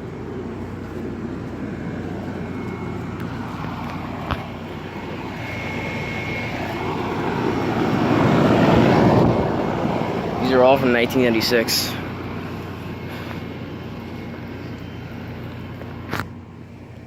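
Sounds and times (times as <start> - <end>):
air conditioner units humming: 0.0 - 17.0.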